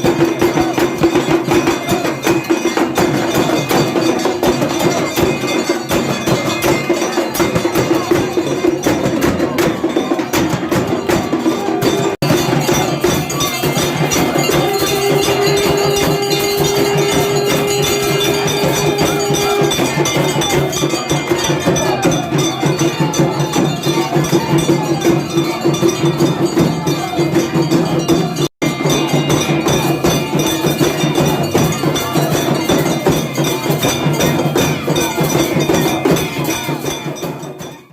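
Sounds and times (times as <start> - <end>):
percussion: 0.0 - 37.9
temple bells clanging: 0.0 - 37.9.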